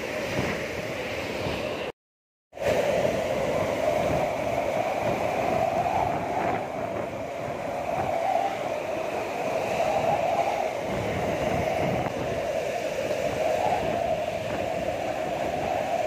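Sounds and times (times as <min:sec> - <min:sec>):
strong wind howling: 0:00.0 - 0:01.9, 0:02.6 - 0:16.0.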